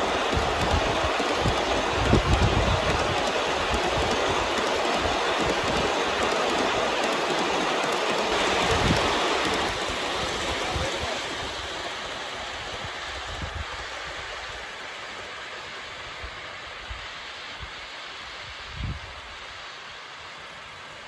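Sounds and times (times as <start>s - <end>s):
model train wheels rumbling on rail: 0.0s - 21.0s.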